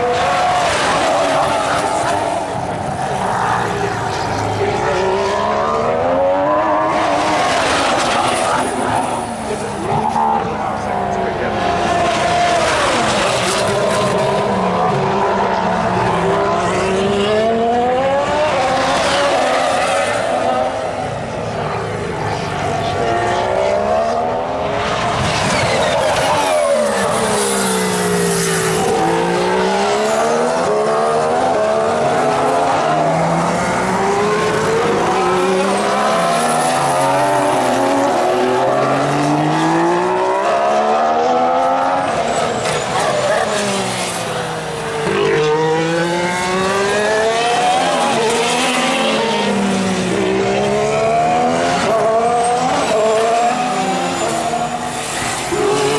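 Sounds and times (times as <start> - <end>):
racing car engines passing: 0.0 - 55.9.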